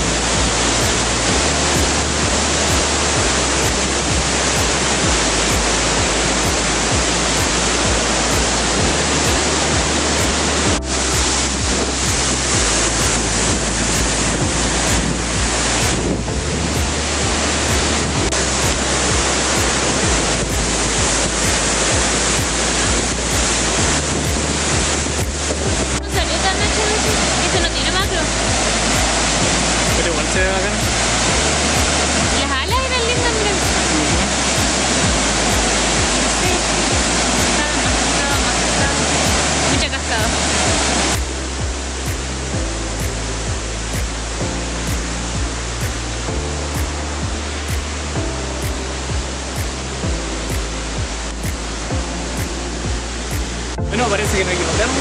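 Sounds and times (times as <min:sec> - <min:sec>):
background music: 0:00.0 - 0:55.0
waterfall rushing over rocks: 0:00.0 - 0:55.0.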